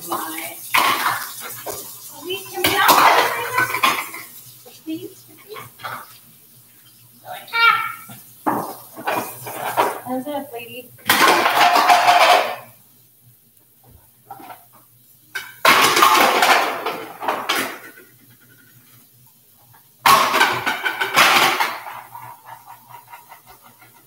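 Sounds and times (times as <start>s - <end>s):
cookware clattering and scraping: 0.0s - 6.2s, 8.4s - 10.2s, 11.0s - 12.8s, 14.2s - 24.0s.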